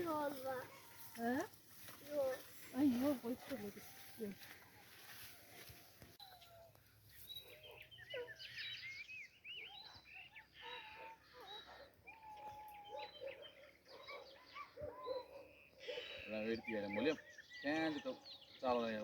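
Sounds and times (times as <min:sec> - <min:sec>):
small birds chirping and singing: 0:00.0 - 0:19.0.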